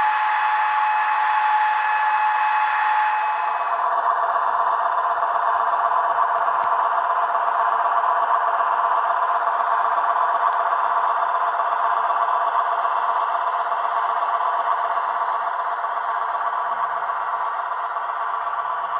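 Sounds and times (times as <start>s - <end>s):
tinny diesel engine sound from speaker: 0.0s - 18.9s.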